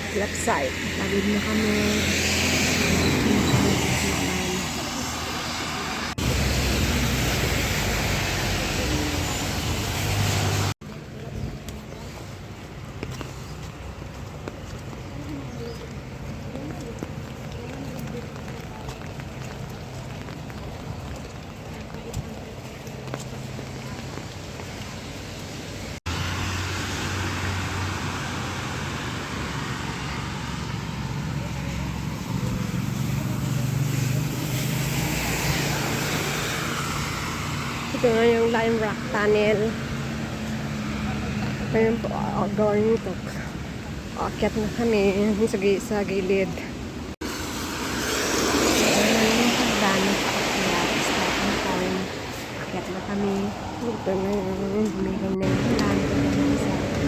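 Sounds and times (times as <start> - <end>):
low engine hum: 0.0 - 57.0
road traffic passing: 0.0 - 57.0.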